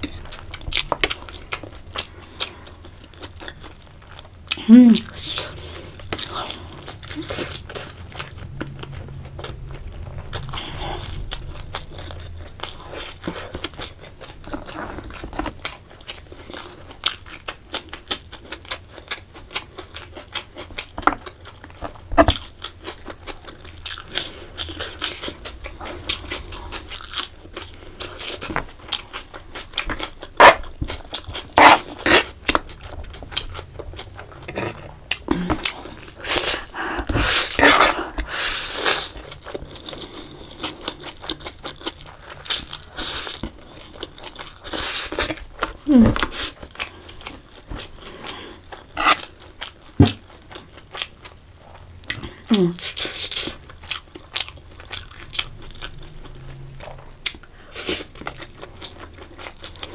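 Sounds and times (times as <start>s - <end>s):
chewing crunchy fried food: 0.0s - 59.9s.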